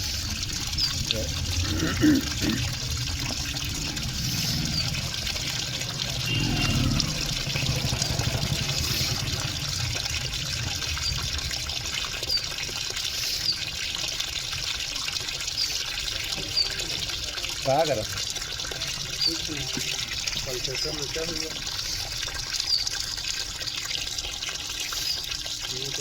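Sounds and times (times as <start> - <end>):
water running and trickling: 0.0 - 26.0.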